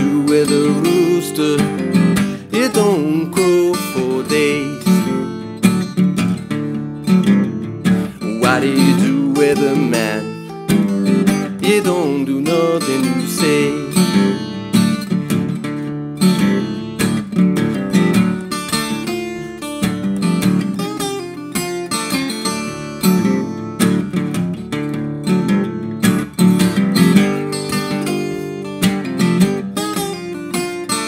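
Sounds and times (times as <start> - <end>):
acoustic guitar blues: 0.0 - 31.0.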